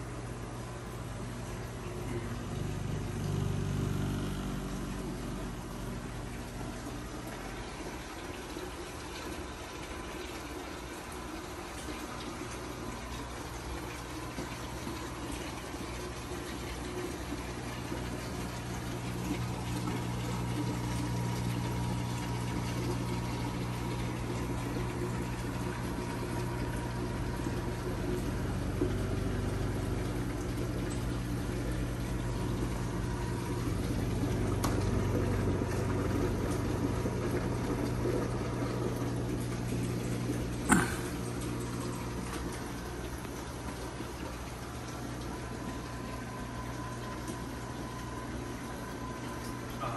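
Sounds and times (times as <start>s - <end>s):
aquarium pump hum: 0.0s - 49.9s
water rushing and trickling: 0.0s - 49.9s.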